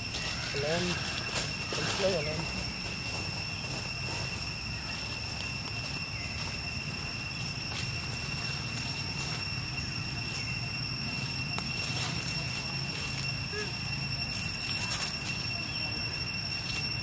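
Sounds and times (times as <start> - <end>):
high-pitched whine: 0.0 - 17.0.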